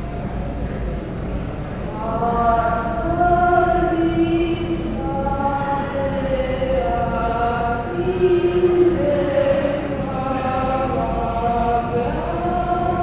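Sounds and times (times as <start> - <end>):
woman singing a slow chant: 1.9 - 13.0.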